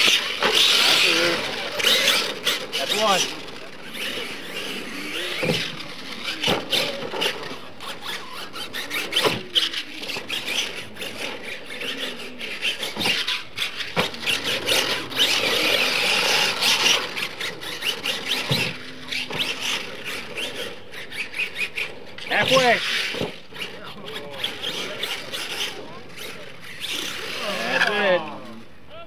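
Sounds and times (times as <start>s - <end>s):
tyres scrabbling on dirt: 0.0s - 28.6s
toy truck motor whining: 0.0s - 28.7s.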